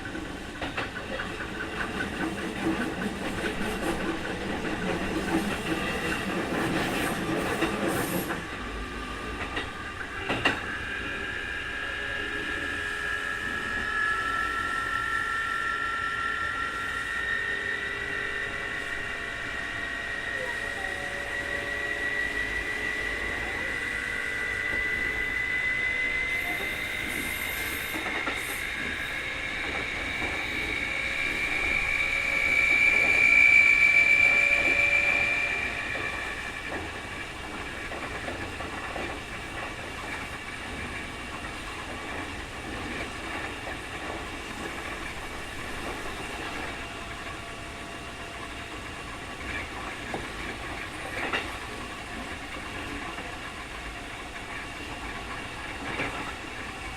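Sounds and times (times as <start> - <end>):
rail joint clicks: 0.0 - 11.2, 22.4 - 56.9
train motor high whine: 0.0 - 56.9.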